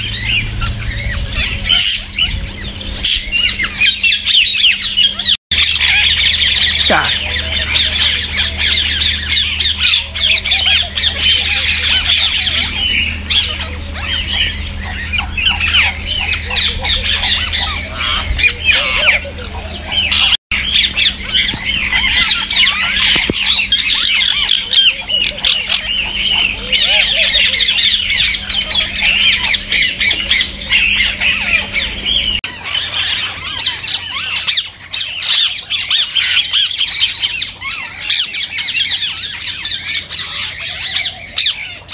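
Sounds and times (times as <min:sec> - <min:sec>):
low steady hum: 0:00.0 - 0:41.9
parakeets squawking: 0:00.0 - 0:41.9.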